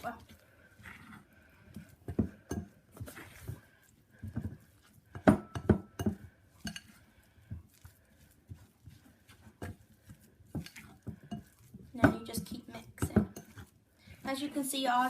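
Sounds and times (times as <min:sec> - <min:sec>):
fork mashing dough: 0:00.0 - 0:15.0.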